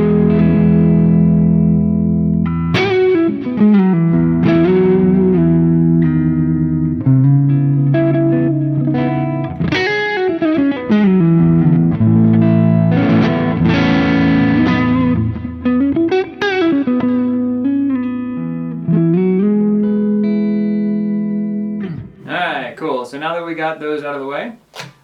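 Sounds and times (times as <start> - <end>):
electric guitar through amp: 0.0 - 22.3.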